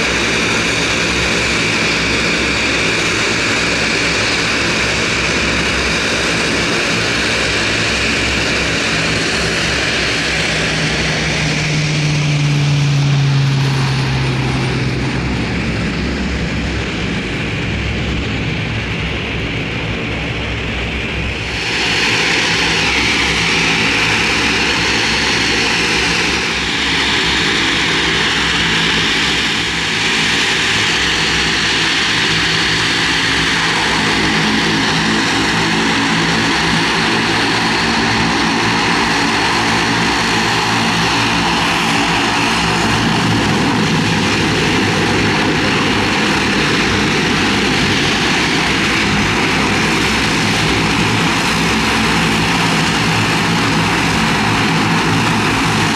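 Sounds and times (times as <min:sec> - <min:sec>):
high turbine whine: 0:00.0 - 0:55.9
turboprop engines running: 0:00.0 - 0:55.9.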